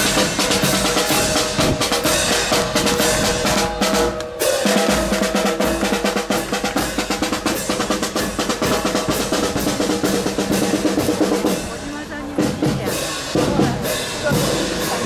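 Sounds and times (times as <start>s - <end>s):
bass drum beats: 0.0s - 15.0s
rapid snare drumming: 0.0s - 15.0s
wind instruments holding notes: 0.0s - 15.0s.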